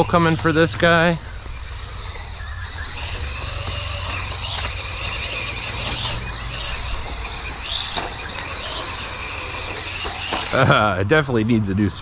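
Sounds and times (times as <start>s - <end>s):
rc car electric motor whine: 0.0s - 11.0s.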